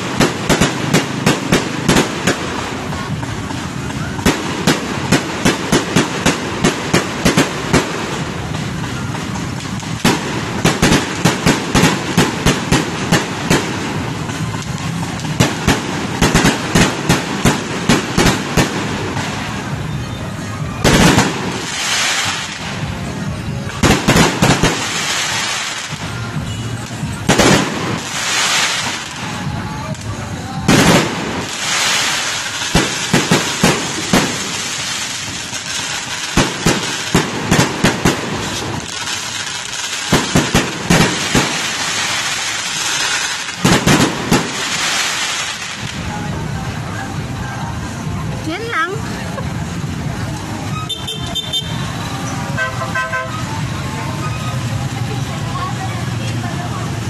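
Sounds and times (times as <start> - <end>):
fireworks bursting with sharp bangs: 0.0 - 57.0
fireworks rushing bursts: 0.0 - 57.0.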